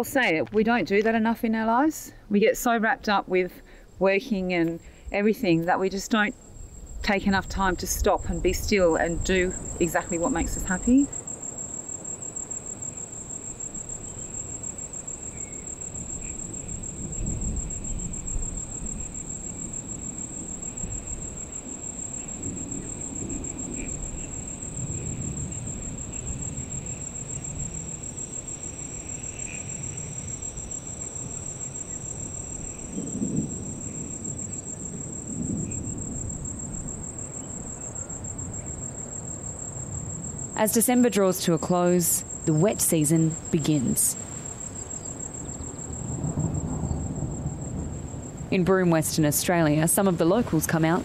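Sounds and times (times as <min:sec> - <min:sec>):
insects trilling: 0:03.4 - 0:51.0
low rolls of thunder: 0:06.3 - 0:41.1, 0:44.2 - 0:51.0.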